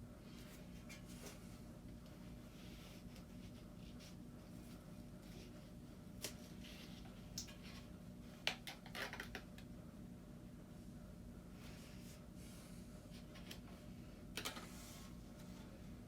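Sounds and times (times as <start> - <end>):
steady low hum: 0.0 - 8.7, 9.4 - 16.0.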